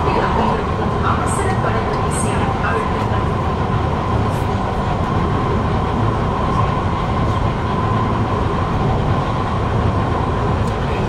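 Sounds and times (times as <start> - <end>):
steady train whine: 0.0 - 11.0
train wheels rumbling: 0.0 - 11.0.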